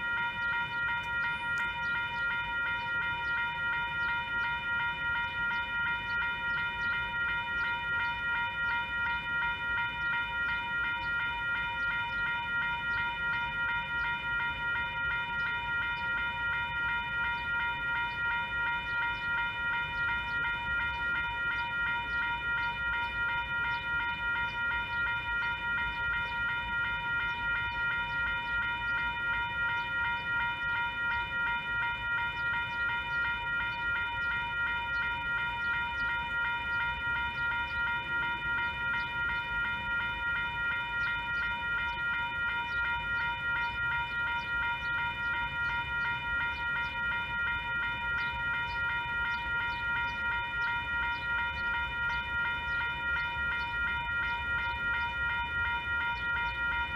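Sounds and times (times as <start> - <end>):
railroad crossing bell ringing: 0.0 - 56.9.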